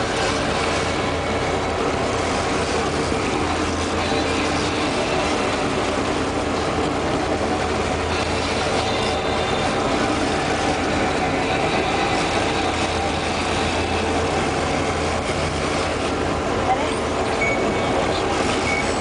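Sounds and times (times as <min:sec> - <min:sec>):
boat engine droning: 0:00.0 - 0:19.0
rush of churning wake: 0:00.0 - 0:19.0.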